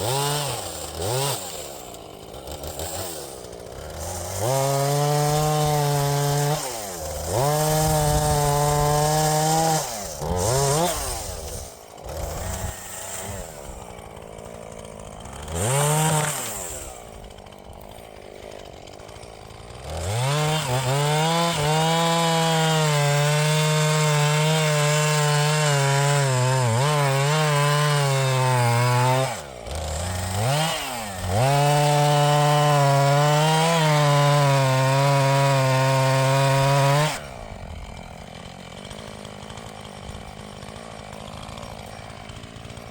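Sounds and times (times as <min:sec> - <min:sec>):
chainsaw revving and idling: 0:00.0 - 0:42.9.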